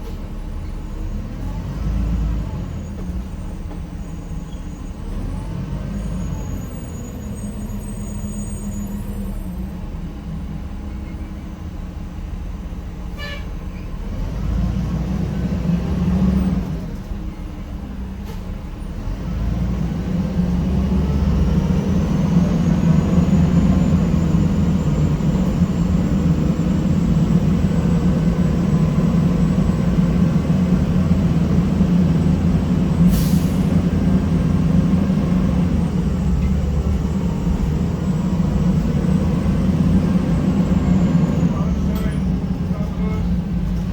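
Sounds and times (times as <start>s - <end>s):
bus diesel engine humming: 0.0s - 43.9s.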